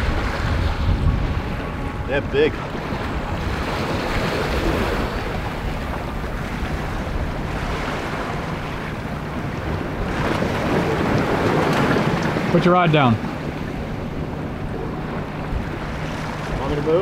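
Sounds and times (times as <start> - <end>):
low steady hum: 0.0 - 17.0
waves washing: 0.0 - 17.0
wind buffeting microphone: 0.0 - 17.0.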